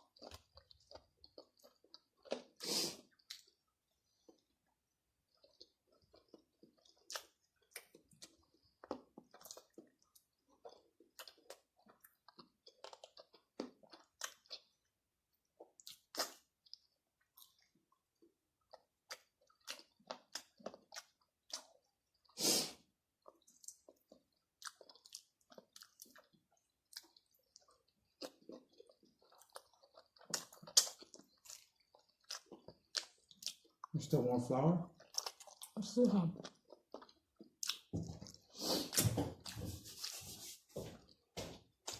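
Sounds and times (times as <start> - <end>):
chewing and crunching food: 0.0 - 41.9.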